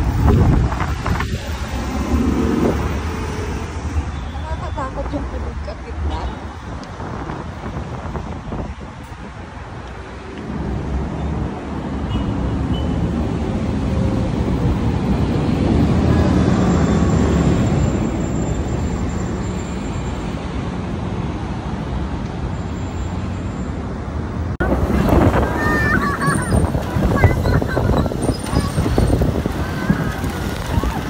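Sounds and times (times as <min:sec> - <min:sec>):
traffic rumbling past: 0:00.0 - 0:31.0.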